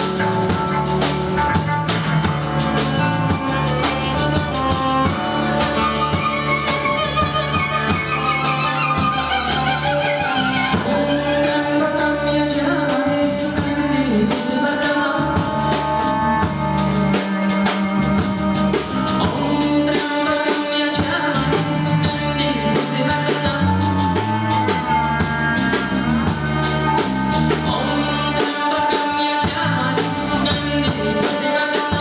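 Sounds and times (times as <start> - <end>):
person singing: 0.0 - 32.0
song with drums: 0.0 - 32.0.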